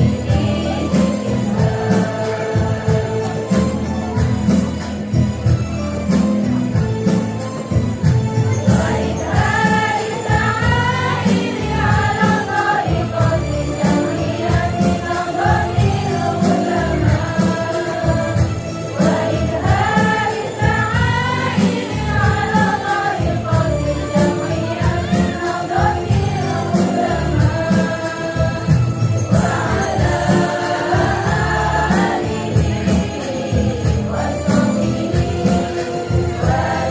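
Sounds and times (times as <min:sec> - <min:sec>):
women's choir singing devotional song: 0:00.0 - 0:05.2, 0:08.4 - 0:36.9
jingling percussion: 0:00.0 - 0:36.9.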